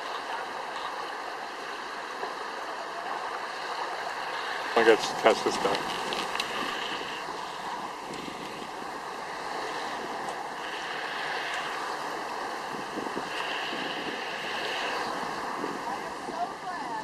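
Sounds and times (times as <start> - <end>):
waves: 0.0 - 17.0
wind: 0.0 - 17.0.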